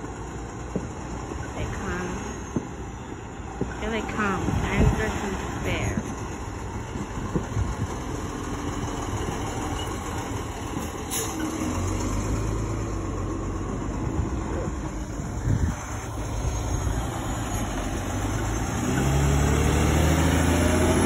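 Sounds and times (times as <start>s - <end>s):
fire engine diesel engine driving past: 0.0s - 21.0s.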